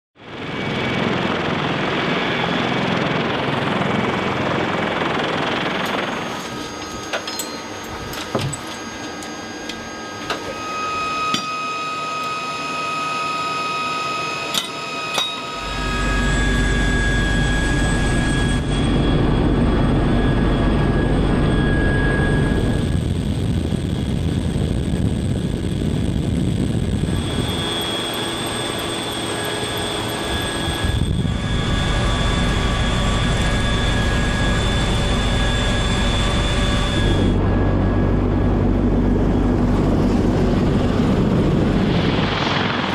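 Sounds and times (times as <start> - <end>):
helicopter engines and rotors: 0.2 - 42.9
whining tones: 5.0 - 42.9.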